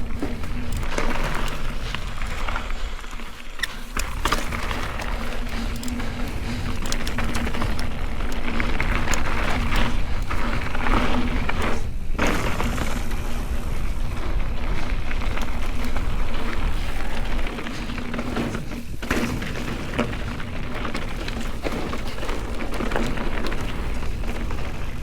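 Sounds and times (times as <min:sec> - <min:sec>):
bike knocks and rattles: 0:00.0 - 0:25.0
bike tyres crunching over dirt: 0:00.0 - 0:25.0
wind rumble: 0:00.0 - 0:25.0.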